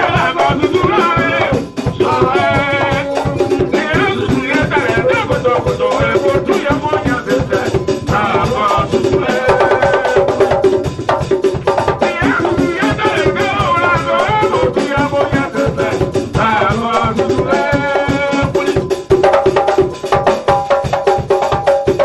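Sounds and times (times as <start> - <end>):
men singing into microphones: 0.0 - 20.2
keyboard: 0.0 - 20.3
fast percussion beat: 0.0 - 22.0.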